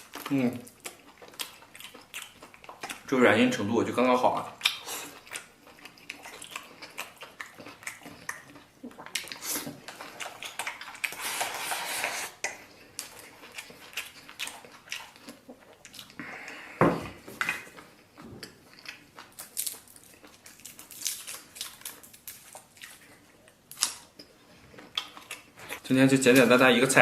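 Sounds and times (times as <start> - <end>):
chewing: 0.0 - 3.1, 4.3 - 26.5.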